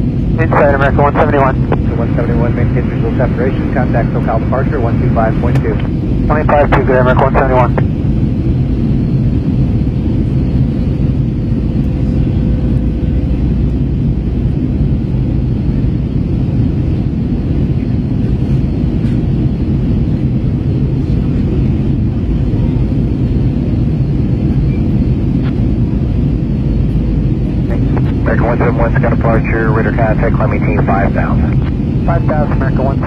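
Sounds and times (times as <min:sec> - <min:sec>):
airplane cabin drone: 0:00.0 - 0:33.0.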